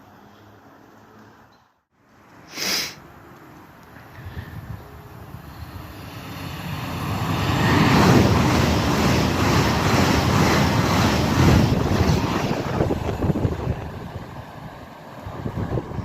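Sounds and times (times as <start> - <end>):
train passing with clatter: 3.0 - 16.0.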